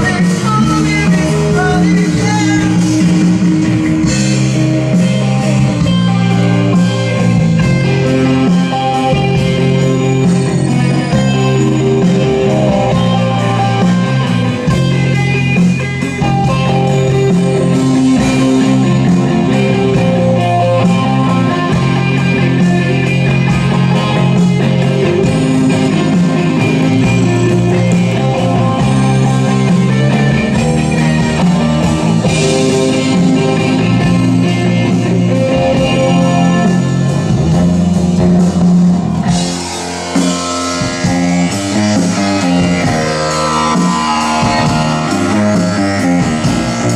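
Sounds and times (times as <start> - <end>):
electric guitar: 0.0 - 46.9
rock band playing live: 0.0 - 46.9.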